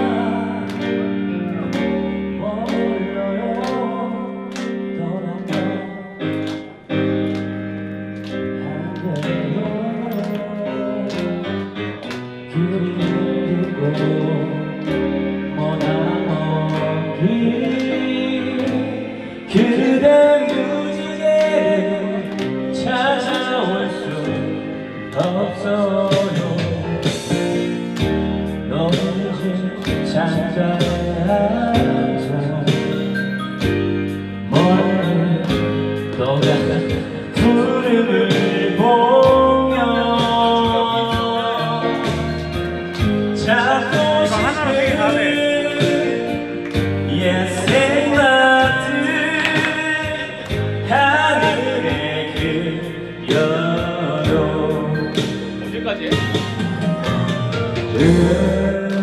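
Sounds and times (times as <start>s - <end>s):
man singing into a microphone: 0.0s - 7.1s, 8.3s - 59.0s
backing track with steady beat: 0.0s - 59.0s.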